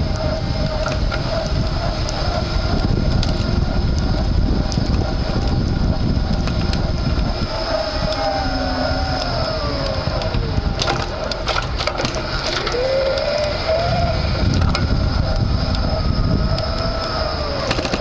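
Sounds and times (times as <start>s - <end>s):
electric bicycle motor whining: 0.0s - 18.0s
wind and road noise: 0.0s - 18.0s.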